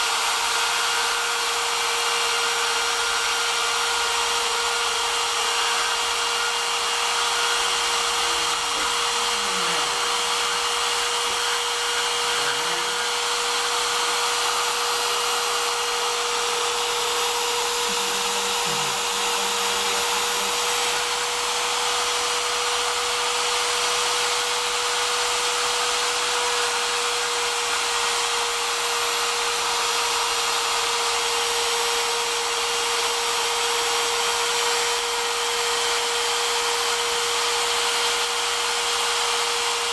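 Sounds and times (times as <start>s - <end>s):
spindle motor whine: 0.0s - 39.9s.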